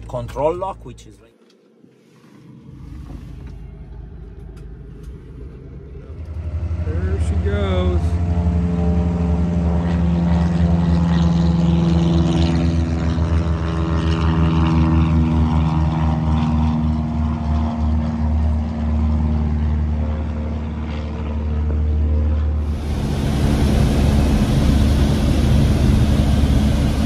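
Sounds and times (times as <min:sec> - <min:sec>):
airplane propeller engine drone: 0:00.0 - 0:27.0.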